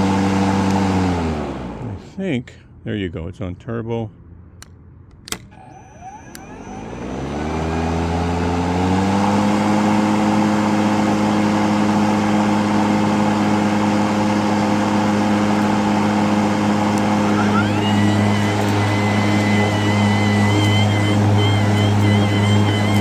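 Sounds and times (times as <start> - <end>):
lawn mower motor whine: 0.0 - 2.1, 5.2 - 23.0.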